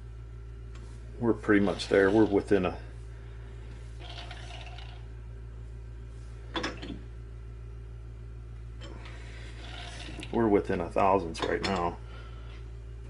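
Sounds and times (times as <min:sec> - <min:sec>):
shop background hum: 0:00.0 - 0:13.0.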